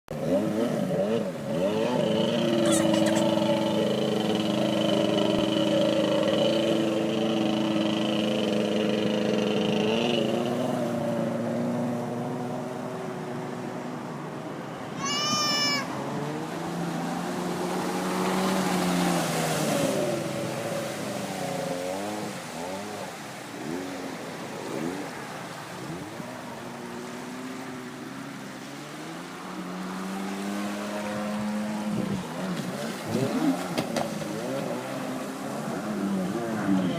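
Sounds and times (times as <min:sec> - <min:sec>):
watercraft engine revving: 0:00.1 - 0:13.8, 0:14.9 - 0:36.9.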